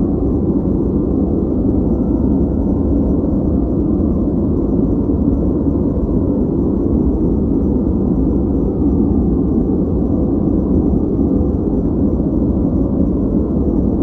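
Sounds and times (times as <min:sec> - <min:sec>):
deep rushing white noise: 0:00.0 - 0:14.0.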